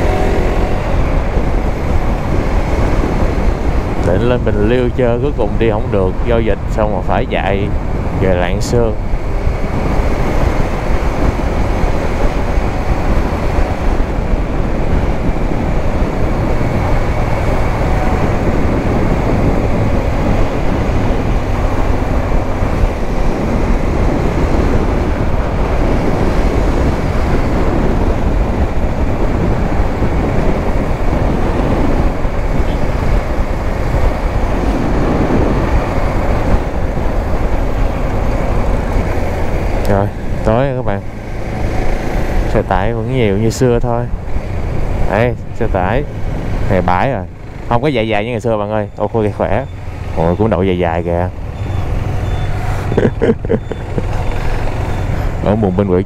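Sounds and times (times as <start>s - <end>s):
motorcycle engine: 0.0s - 6.8s, 7.7s - 56.0s
wind rush: 0.0s - 56.0s.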